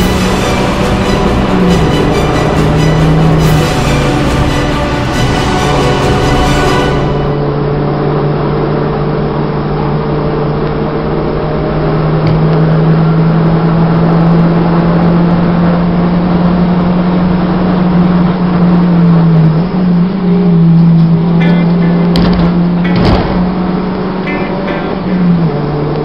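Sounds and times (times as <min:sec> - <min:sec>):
racing car engine drone: 0:00.0 - 0:26.0.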